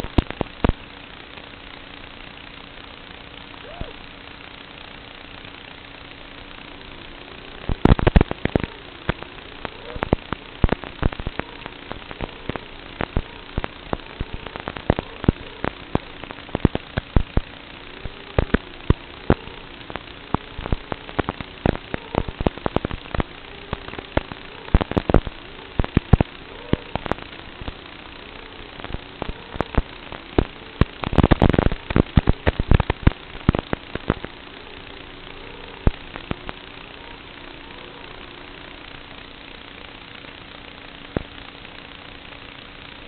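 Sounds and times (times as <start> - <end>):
micro drone motors buzzing: 0.0 - 43.0.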